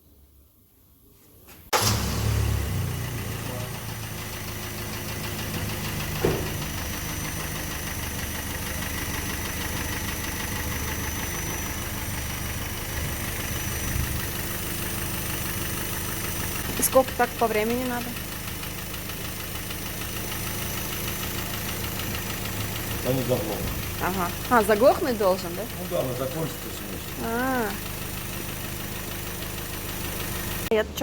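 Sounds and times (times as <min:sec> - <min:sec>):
car engine starting and idling: 0:01.6 - 0:31.0.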